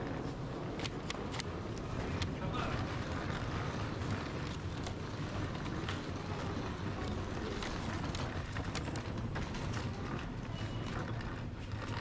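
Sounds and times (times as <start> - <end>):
train cabin running rumble: 0.0 - 12.0.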